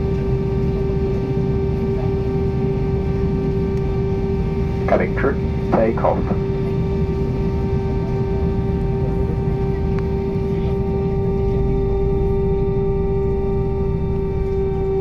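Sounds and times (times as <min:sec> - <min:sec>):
jet engines humming from cabin: 0:00.0 - 0:15.0.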